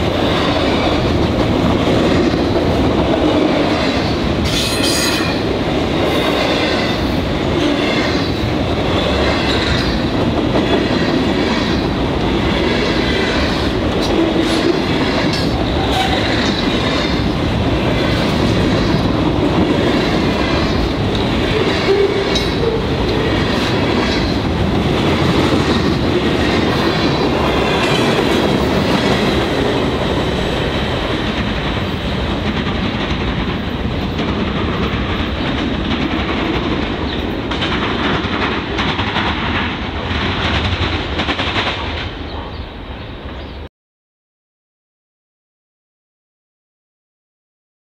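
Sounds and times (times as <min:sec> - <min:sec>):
freight train rumbling past: 0:00.0 - 0:43.6.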